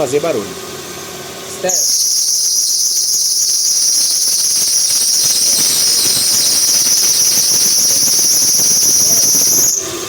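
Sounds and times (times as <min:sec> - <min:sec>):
drive belt squealing: 0:01.7 - 0:10.0.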